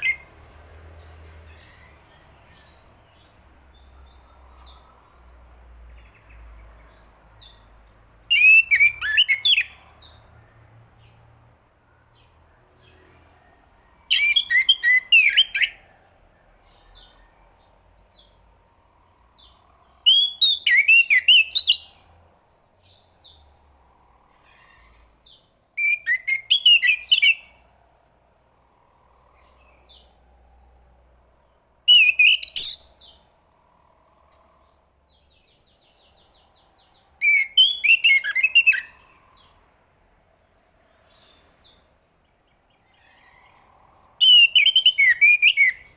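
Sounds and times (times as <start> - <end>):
faint soft bird notes: 0.0 - 45.9.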